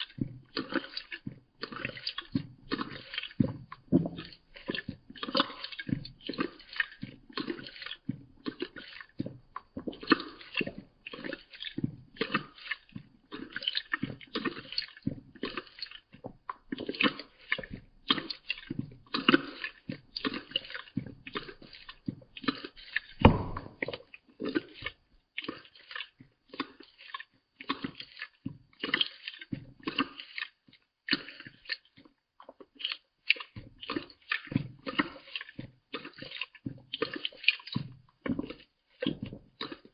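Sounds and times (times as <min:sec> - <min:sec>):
cat lapping water: 0:00.0 - 0:39.9.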